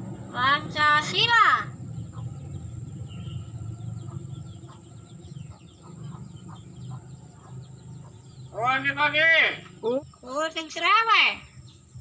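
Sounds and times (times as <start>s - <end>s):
birds chirping and clucking: 0.0s - 12.0s
steady low hum: 0.0s - 12.0s.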